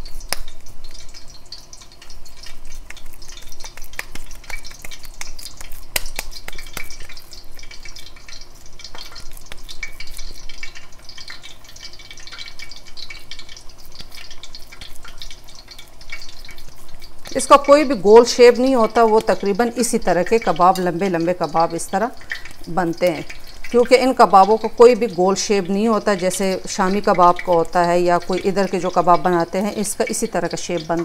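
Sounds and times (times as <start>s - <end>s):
meat sizzling in hot oil: 0.0s - 31.0s.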